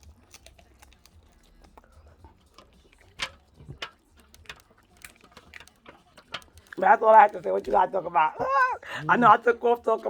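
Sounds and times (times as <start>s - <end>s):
eating clicks and crackles: 0.0s - 10.0s.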